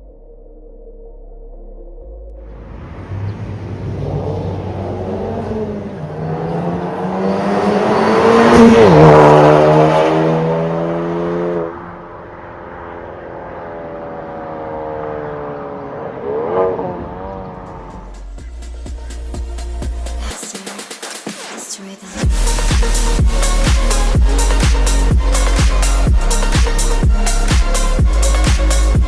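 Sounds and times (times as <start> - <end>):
car engine revving: 0.0 - 20.4, 22.2 - 29.0.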